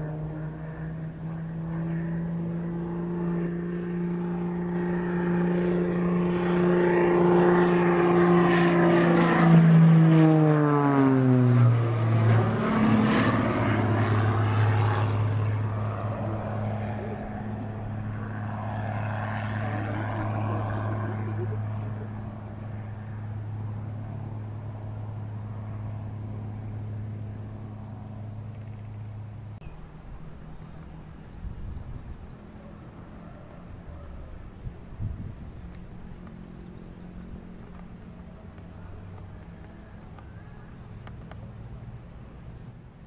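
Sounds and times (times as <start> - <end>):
light aircraft passing overhead: 0.0 - 43.0.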